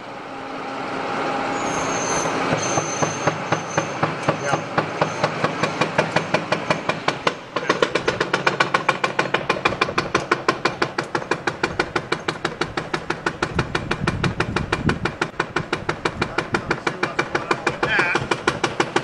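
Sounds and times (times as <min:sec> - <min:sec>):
low engine rumble: 0:00.0 - 0:18.7
driveshaft joint knocking: 0:02.5 - 0:19.0.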